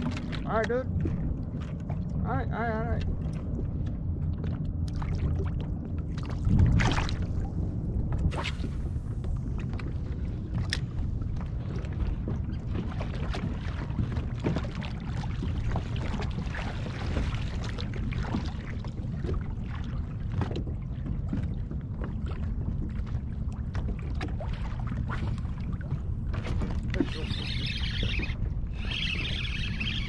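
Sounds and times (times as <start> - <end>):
waves lapping against hull: 0.0 - 30.0
wind rumble on microphone: 0.0 - 30.0.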